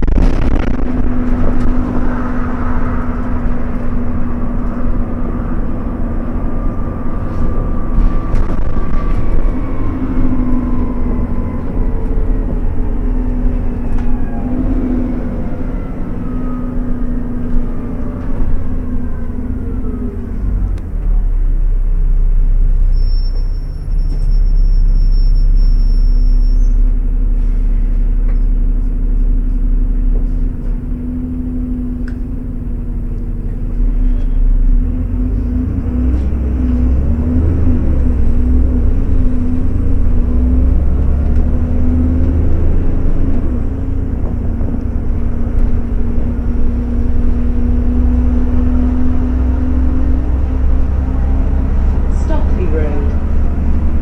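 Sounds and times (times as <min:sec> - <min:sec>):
bus engine whining: 0:00.0 - 0:54.0
road rumble: 0:00.0 - 0:54.0.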